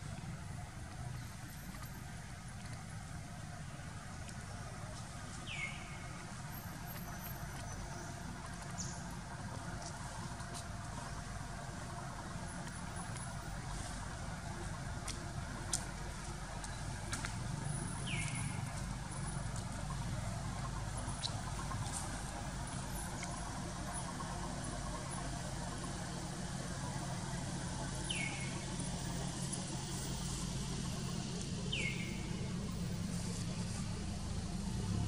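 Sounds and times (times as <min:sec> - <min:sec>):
distant engine hum: 0:00.0 - 0:35.0.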